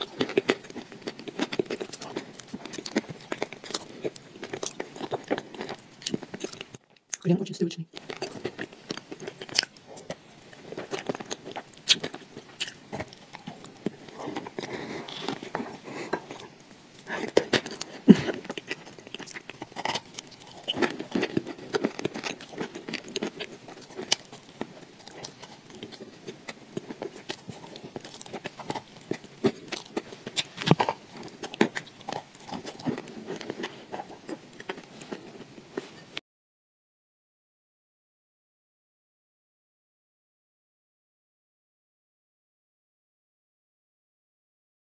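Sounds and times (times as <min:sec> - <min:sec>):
wet mouth eating sounds: 0:00.0 - 0:36.1.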